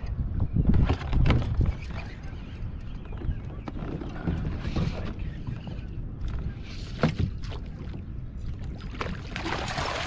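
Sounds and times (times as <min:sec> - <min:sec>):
wind on microphone: 0:00.0 - 0:10.0
water lapping against kayak hull: 0:01.6 - 0:10.0.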